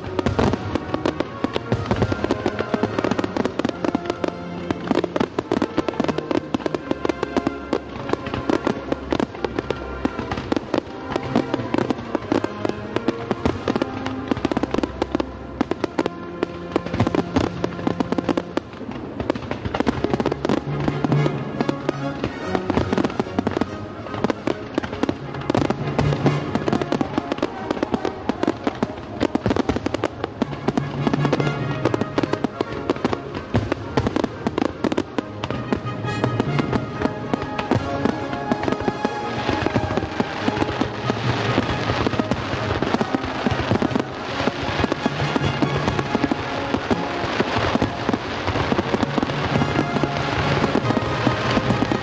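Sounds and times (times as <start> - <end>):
fireworks bangs and crackles: 0.0 - 52.0
music playing: 0.0 - 52.0.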